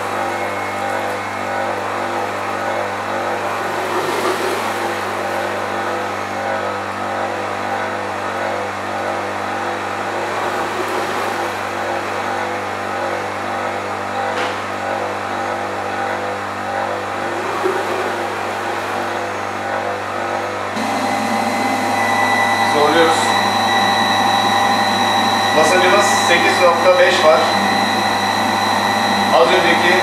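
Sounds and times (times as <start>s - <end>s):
electric pump humming: 0.0s - 30.0s.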